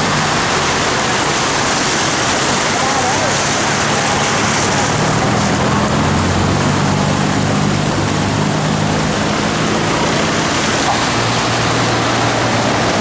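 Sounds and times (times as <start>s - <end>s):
low hum of engines: 0.0s - 13.0s
splashing floodwater: 0.0s - 13.0s.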